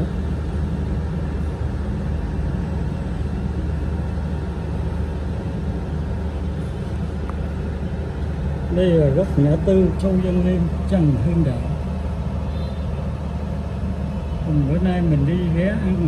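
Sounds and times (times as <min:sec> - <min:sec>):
city traffic drone: 0:00.0 - 0:16.0.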